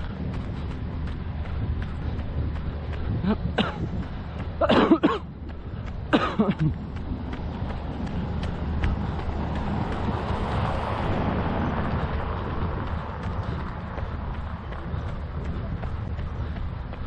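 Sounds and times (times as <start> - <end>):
low street rumble: 0.0 - 17.0
rushing noise: 0.0 - 17.0
wind on microphone: 0.0 - 17.0.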